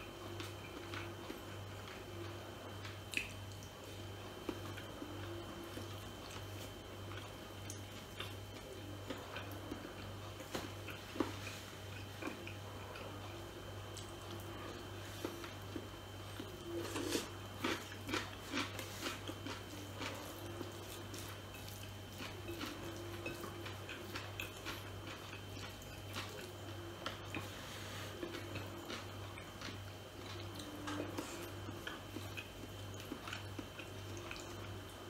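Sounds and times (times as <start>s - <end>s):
steady low hum: 0.0s - 35.0s
chewing: 0.2s - 35.0s.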